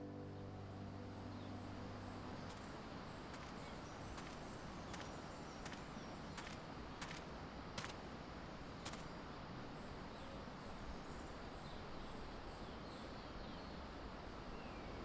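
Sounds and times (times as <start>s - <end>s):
faint bird twitter: 0.4s - 8.1s, 8.8s - 15.0s.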